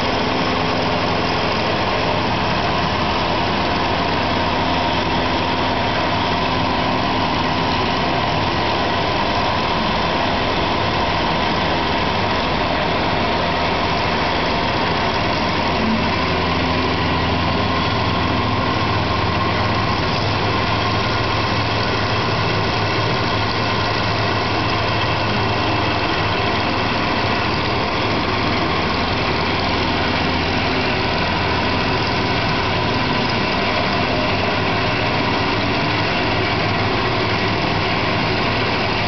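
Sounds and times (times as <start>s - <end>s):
milling machine cutting metal: 0.1s - 39.0s.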